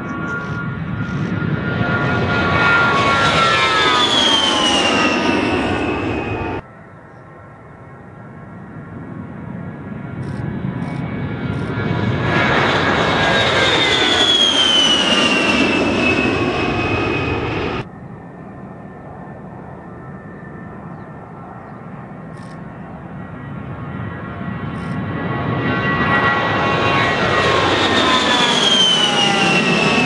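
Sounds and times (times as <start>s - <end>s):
jet aircraft taking off: 0.0s - 30.0s
steady jet engine noise: 0.0s - 30.0s.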